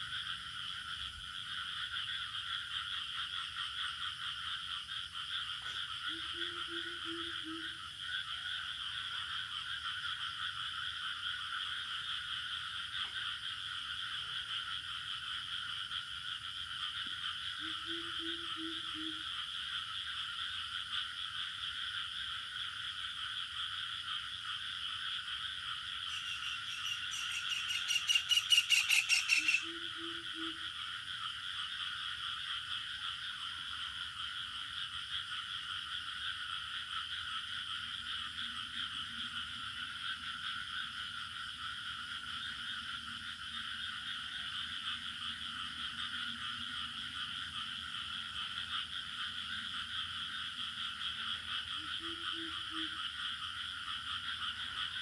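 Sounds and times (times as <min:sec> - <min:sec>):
frogs and crickets chorus: 0:00.0 - 0:55.0
loud pulsing frog call: 0:00.0 - 0:55.0
low frog croaks: 0:00.0 - 0:55.0.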